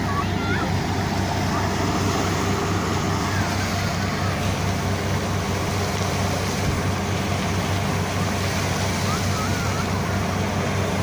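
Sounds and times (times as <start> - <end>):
drilling rig engine droning: 0.0 - 11.0
rush of air blasting water: 0.0 - 11.0.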